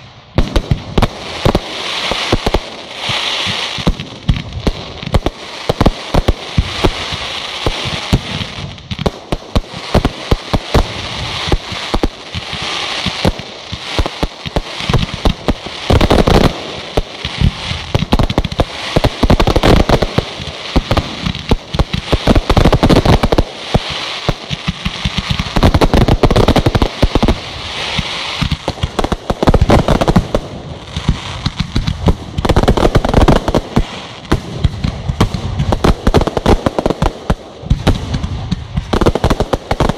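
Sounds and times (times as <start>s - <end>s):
fireworks bangs and crackling: 0.0s - 39.9s
heavy firework booms: 0.0s - 39.9s.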